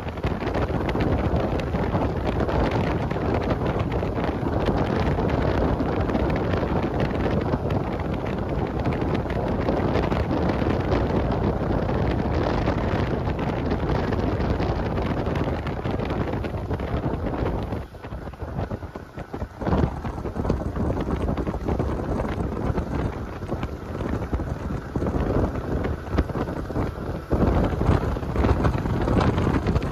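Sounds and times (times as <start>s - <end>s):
boat running noise: 0.0s - 29.9s
wind buffeting microphone: 0.0s - 29.9s.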